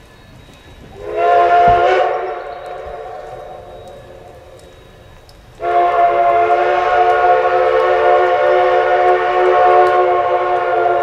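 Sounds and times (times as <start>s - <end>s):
steam locomotive whistle blast: 1.0s - 5.0s, 5.6s - 11.0s.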